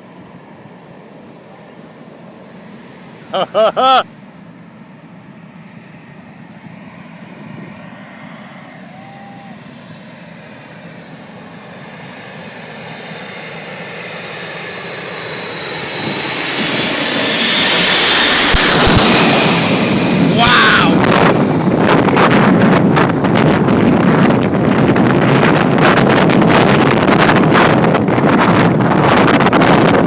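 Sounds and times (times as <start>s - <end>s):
jet engines roaring: 0.0s - 3.8s, 4.4s - 30.0s.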